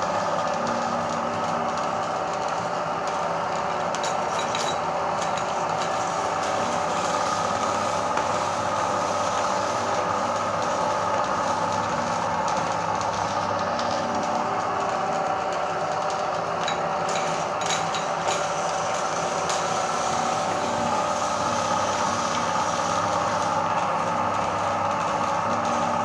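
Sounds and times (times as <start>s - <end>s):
electric meat grinder motor hum: 0.0s - 26.0s.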